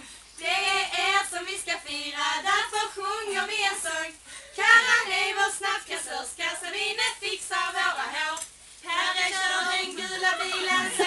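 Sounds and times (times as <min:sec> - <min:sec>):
women singing together: 0:00.4 - 0:11.0.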